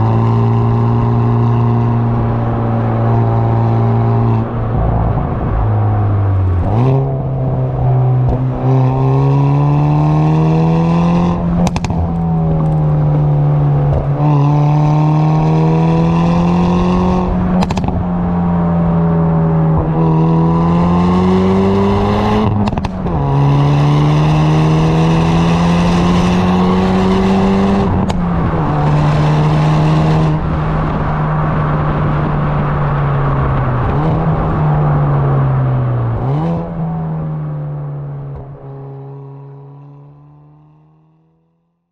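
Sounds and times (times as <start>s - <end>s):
car exhaust accelerating: 0.0s - 41.5s.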